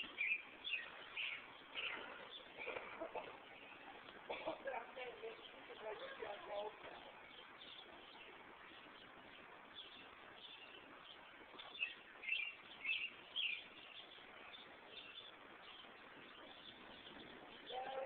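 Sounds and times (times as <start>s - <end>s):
bird chirping: 0.0s - 18.0s
faint steady hiss: 0.0s - 18.0s.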